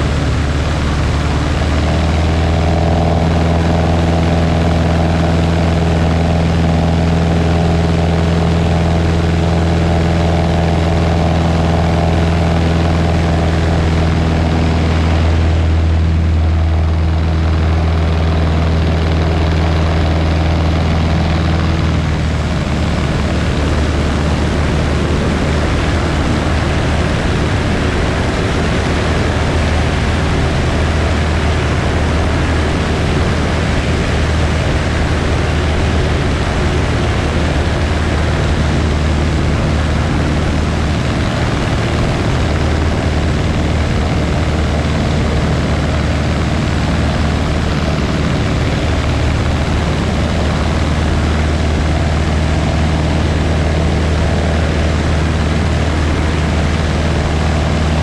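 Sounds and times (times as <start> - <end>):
propeller airplane engine drone: 0.0 - 58.0
rushing wind: 0.0 - 58.0.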